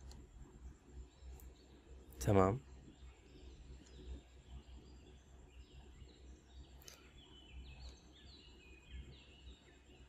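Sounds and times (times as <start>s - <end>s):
faint low hum: 0.0s - 10.0s
birds chirping: 0.7s - 10.0s.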